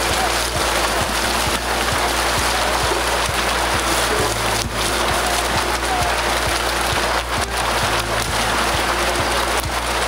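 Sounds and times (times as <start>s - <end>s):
background music with beat: 0.0s - 10.0s
fish splashing in water: 0.0s - 10.0s.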